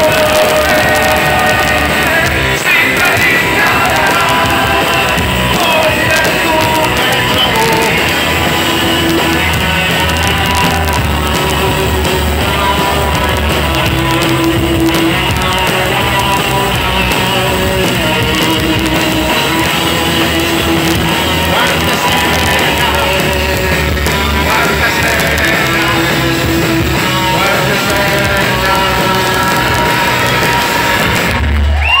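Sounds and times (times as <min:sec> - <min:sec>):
person singing: 0:00.0 - 0:31.4
bass guitar: 0:00.0 - 0:32.0
drum kit: 0:00.0 - 0:32.0
electric guitars: 0:00.0 - 0:32.0.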